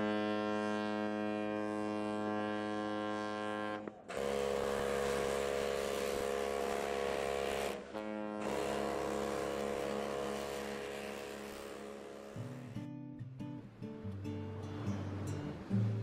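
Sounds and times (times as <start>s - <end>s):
ship's horn blast: 0.0s - 12.9s.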